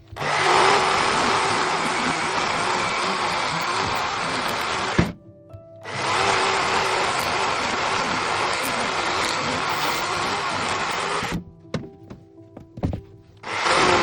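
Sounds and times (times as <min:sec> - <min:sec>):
electric chainsaw cutting wood: 0:00.0 - 0:05.2, 0:05.8 - 0:11.4, 0:13.4 - 0:14.0.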